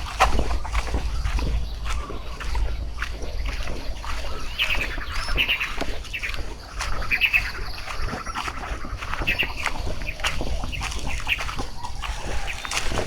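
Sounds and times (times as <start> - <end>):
birds calling harshly: 0.0 - 13.0.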